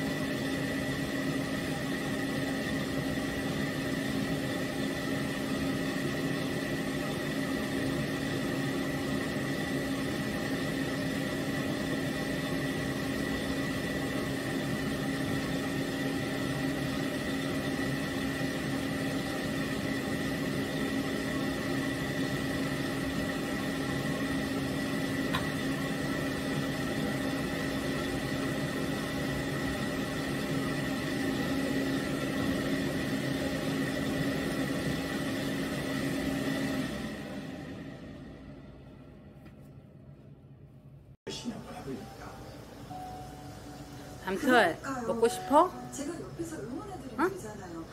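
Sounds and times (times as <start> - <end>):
pet dryer motor hum and whine: 0.0 - 39.3, 41.3 - 47.9.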